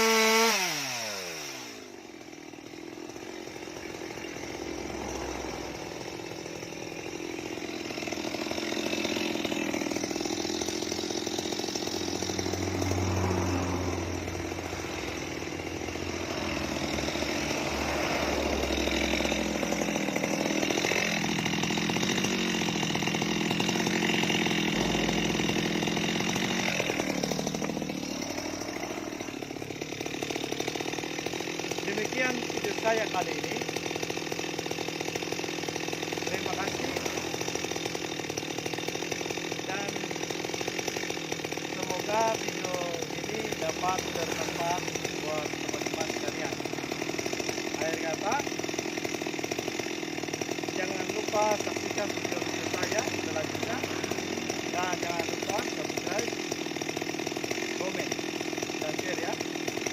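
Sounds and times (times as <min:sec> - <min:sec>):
chainsaw engine: 0:00.0 - 0:59.9.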